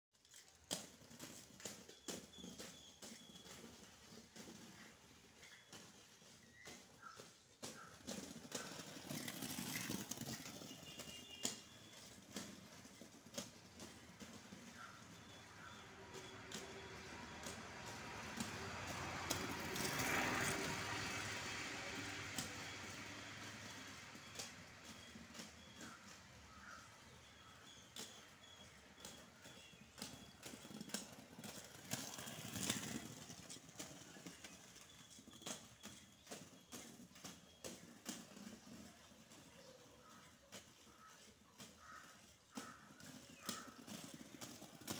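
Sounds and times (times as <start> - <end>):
skate clacks: 0.2 - 44.9
skates rolling on hard surface: 0.2 - 44.9.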